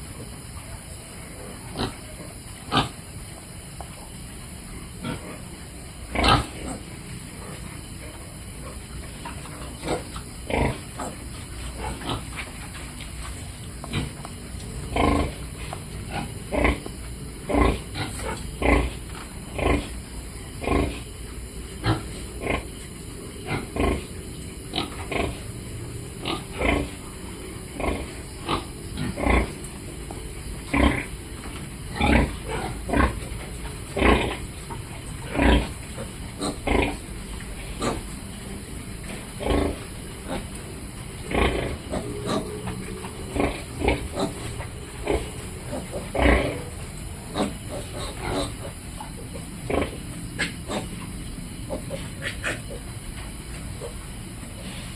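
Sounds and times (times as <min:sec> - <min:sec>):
piglets grunting: 0:04.9 - 0:12.6, 0:13.8 - 0:29.6, 0:32.0 - 0:52.9.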